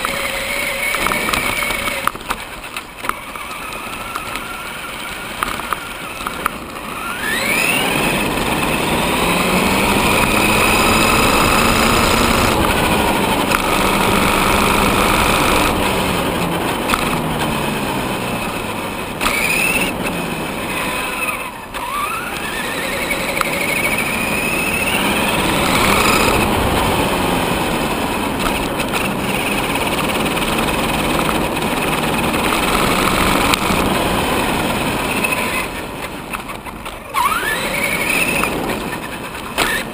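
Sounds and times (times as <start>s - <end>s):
toy truck electric motor whining: 0.0s - 39.9s
tyres rushing on asphalt: 0.0s - 39.9s.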